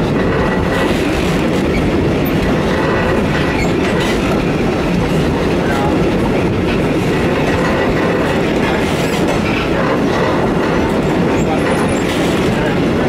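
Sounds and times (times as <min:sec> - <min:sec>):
train wheels rolling on track: 0:00.0 - 0:13.0.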